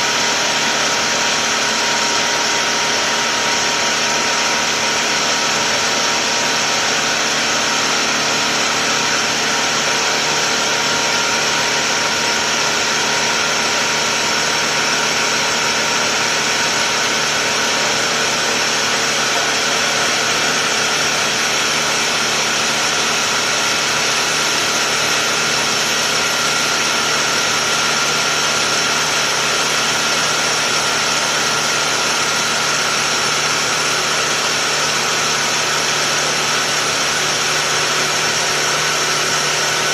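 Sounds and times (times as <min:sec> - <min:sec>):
air compressor drone: 0:00.0 - 0:39.9
steady mechanical whine: 0:00.0 - 0:39.9.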